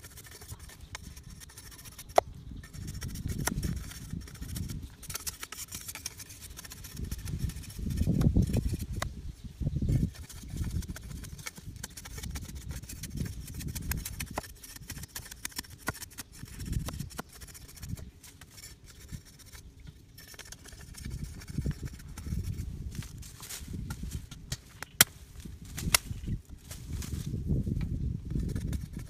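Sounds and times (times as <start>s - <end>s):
cleaver scraping bamboo stick: 0.0s - 9.1s, 9.9s - 27.3s, 28.3s - 29.0s.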